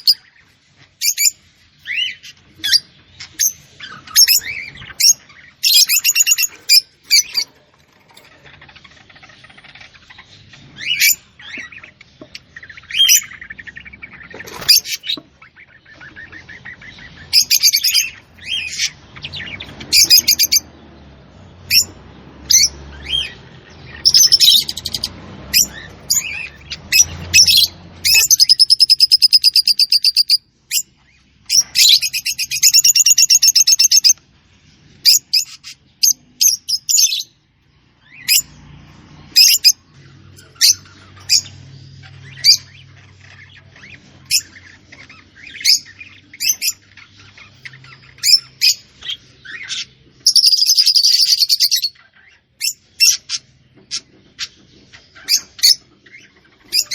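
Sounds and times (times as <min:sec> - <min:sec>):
bird trills: 0:00.0 - 0:20.7, 0:22.5 - 0:30.9, 0:31.5 - 0:34.2, 0:39.4 - 0:56.9
small bird chirping: 0:00.0 - 0:56.9.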